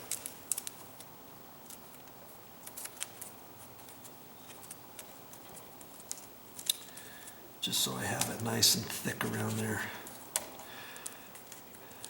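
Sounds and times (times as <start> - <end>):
electrical tape crackling: 0.0 - 12.0.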